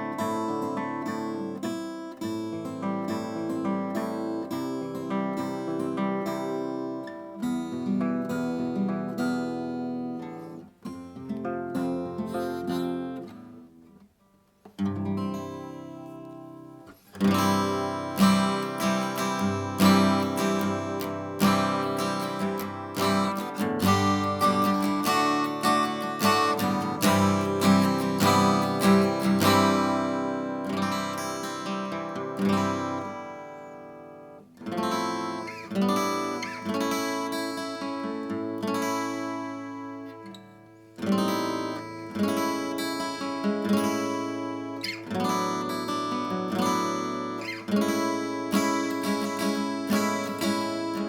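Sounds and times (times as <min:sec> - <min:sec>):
acoustic guitar strumming chords: 0:00.0 - 0:14.1, 0:14.7 - 0:51.0.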